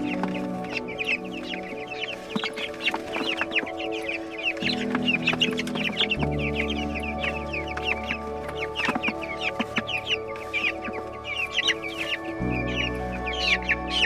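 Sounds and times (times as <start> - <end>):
chicks peeping: 0.0 - 14.0
held music notes: 0.0 - 14.0.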